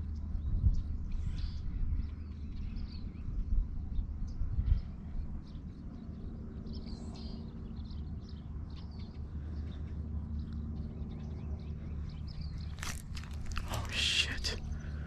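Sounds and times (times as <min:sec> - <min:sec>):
small birds chirping faintly: 0:00.0 - 0:15.0
steady low rumble: 0:00.0 - 0:15.0.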